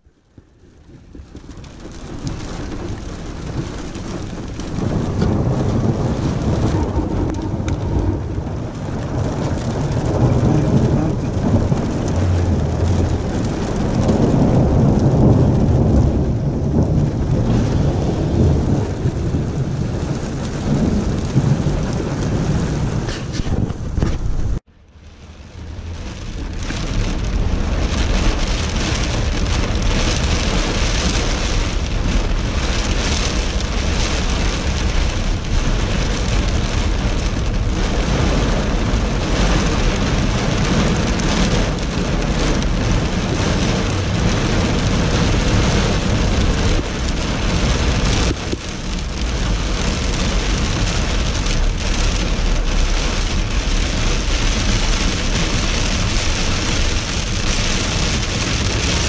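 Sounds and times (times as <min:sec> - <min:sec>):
heavy rain on car roof: 0:00.0 - 0:59.0
loud low rumbling: 0:00.0 - 0:59.0.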